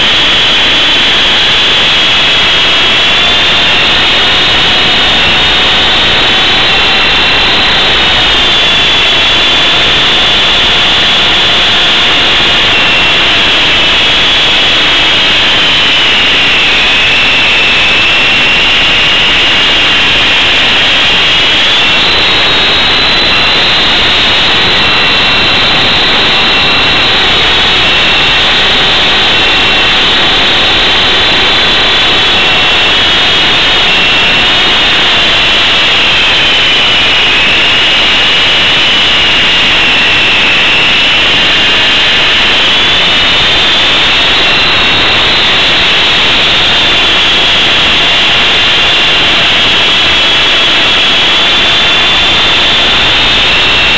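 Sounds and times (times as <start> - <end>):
high motor whine: 0.0 - 53.9
rotor noise rushing: 0.0 - 53.9.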